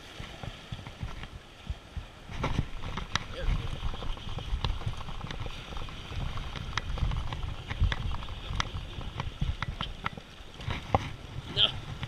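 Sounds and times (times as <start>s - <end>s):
wind and waves rumble: 0.0s - 12.0s.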